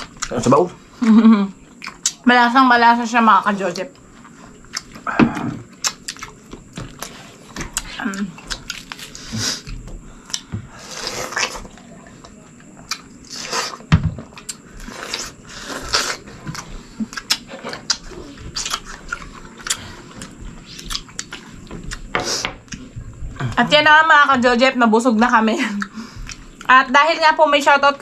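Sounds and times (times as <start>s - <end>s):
person chewing food: 0.0s - 2.2s, 4.0s - 23.6s, 25.8s - 26.7s.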